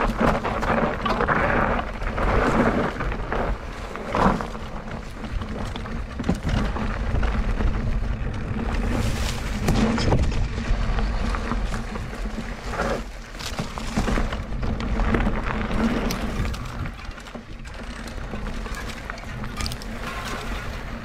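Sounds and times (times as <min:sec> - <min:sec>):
bike chain and frame rattling: 0:00.0 - 0:21.0
tyres rolling over dirt and stones: 0:00.0 - 0:21.0
wind rumbling on microphone: 0:00.0 - 0:21.0.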